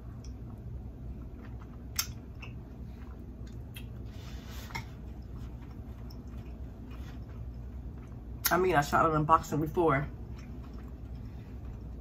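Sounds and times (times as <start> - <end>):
steady low hum: 0.0 - 12.0
chewing with mouth smacks: 0.1 - 8.6, 10.1 - 12.0.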